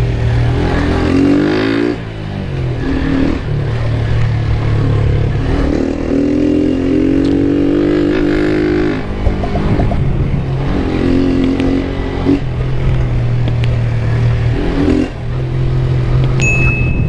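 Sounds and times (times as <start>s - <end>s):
motorcycle engine accelerating: 0.0s - 16.5s.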